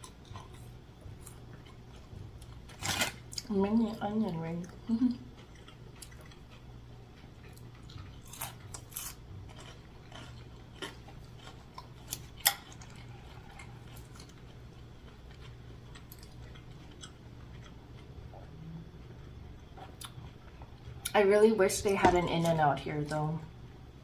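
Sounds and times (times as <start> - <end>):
chewing and crunching food: 0.0 - 21.2
steady low hum: 0.0 - 24.0.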